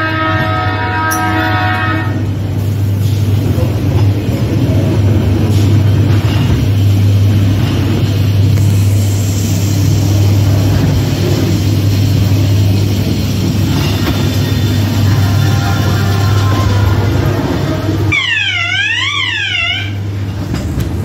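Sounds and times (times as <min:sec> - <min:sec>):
ride car hum and rumble: 0:00.2 - 0:21.0.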